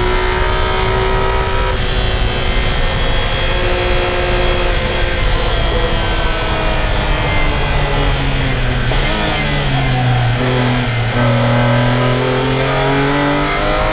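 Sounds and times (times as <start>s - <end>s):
car engine downshifting and revving: 0.0s - 13.9s.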